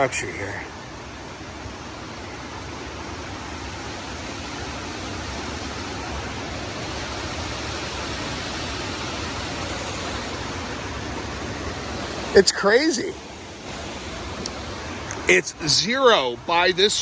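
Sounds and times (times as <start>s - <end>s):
rushing outdoor noise: 0.0s - 17.0s.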